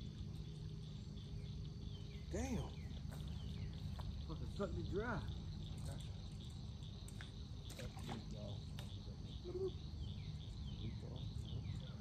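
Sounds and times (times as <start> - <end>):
crickets chirring: 0.0 - 12.0
low steady rumble: 0.0 - 12.0.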